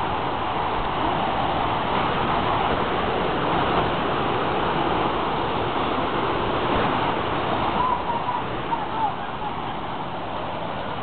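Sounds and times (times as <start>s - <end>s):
river tumbling over rapids: 0.0s - 11.0s.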